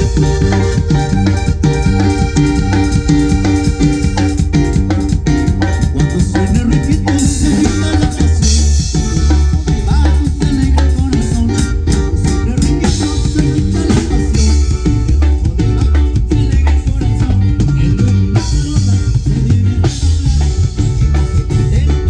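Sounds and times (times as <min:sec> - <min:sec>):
band music: 0:00.0 - 0:22.0
drum kit beat: 0:00.0 - 0:22.0.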